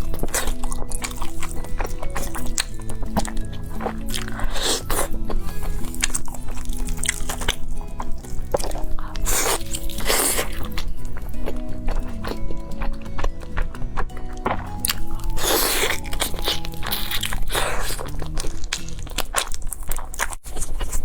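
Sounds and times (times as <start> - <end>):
background music: 0.0 - 19.5
crunching and chewing crisp food: 0.0 - 21.0.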